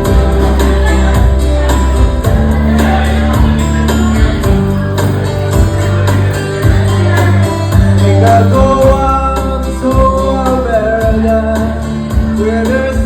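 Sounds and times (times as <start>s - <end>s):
song with bass and light beat: 0.0s - 13.0s.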